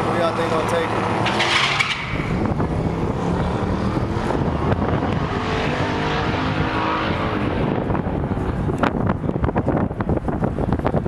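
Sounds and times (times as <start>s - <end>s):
muscle car engines racing: 0.0s - 11.0s.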